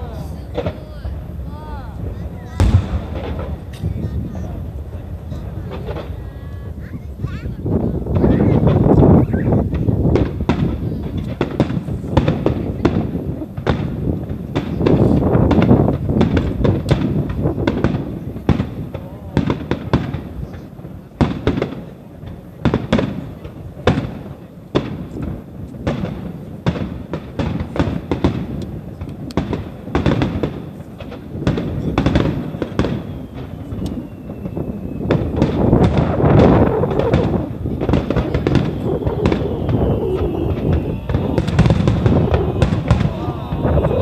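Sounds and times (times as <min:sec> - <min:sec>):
fireworks crackling: 0:00.0 - 0:44.0
firework shells bursting: 0:02.0 - 0:06.2, 0:08.1 - 0:44.0.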